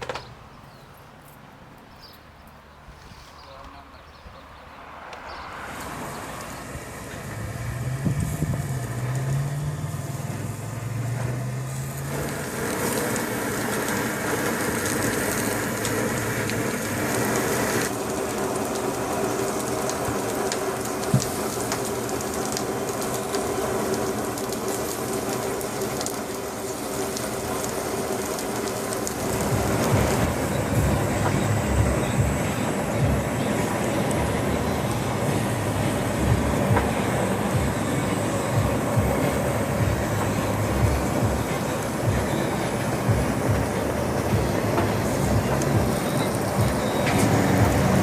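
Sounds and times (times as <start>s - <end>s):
steady multi-tone hum: 0.0s - 48.0s
wood fire crackling: 0.0s - 48.0s
meat sizzling: 5.6s - 48.0s.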